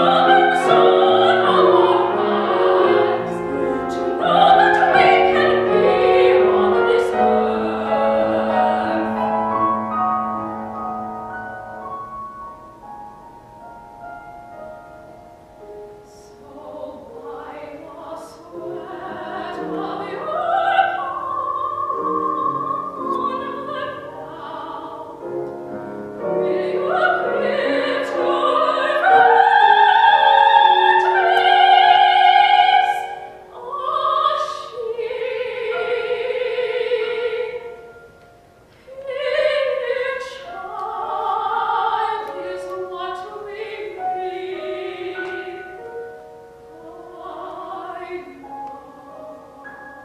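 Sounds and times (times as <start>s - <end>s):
grand piano: 0.0s - 50.0s
soprano singing: 0.0s - 50.0s.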